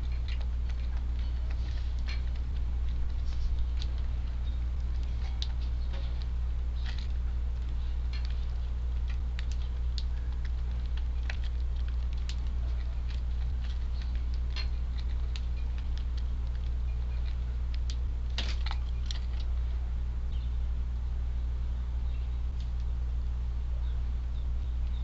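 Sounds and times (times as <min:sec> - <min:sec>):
birds pecking: 0:00.0 - 0:25.0
steady low hum: 0:00.0 - 0:25.0.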